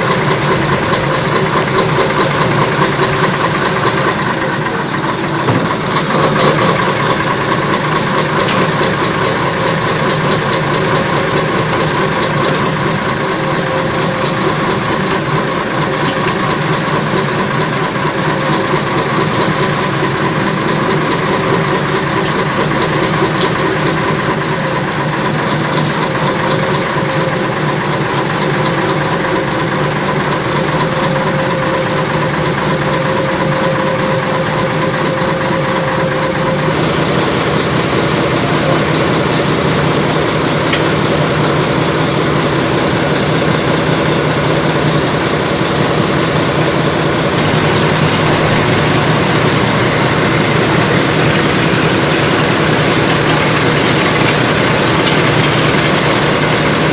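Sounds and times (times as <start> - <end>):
diesel locomotive engine idling: 0.0 - 56.9.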